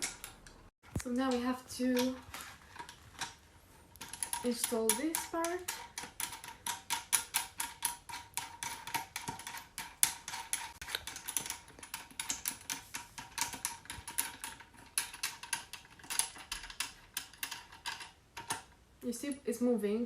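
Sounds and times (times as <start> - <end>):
plastic parts clicking and rattling: 0.0 - 18.8.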